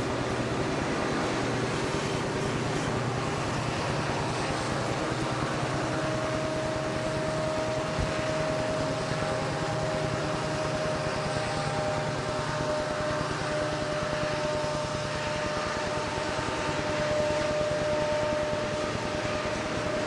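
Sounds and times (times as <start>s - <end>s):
diesel locomotives running: 0.0s - 20.0s.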